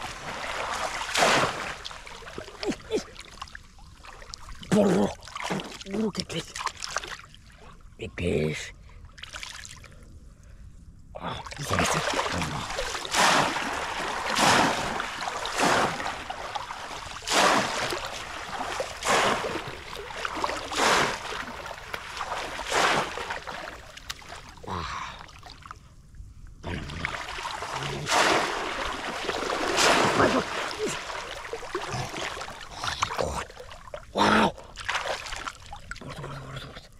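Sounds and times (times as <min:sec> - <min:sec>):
splashing in muddy water: 0:00.0 - 0:07.7, 0:11.2 - 0:25.7, 0:26.6 - 0:36.8.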